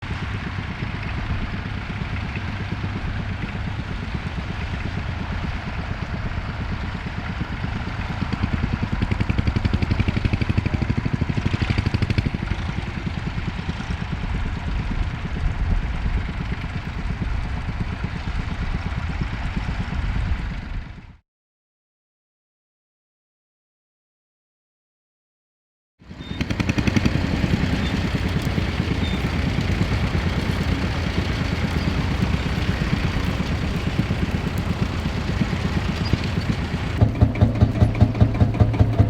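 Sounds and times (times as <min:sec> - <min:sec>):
tractor engine running: 0:00.0 - 0:21.2, 0:26.1 - 0:39.0.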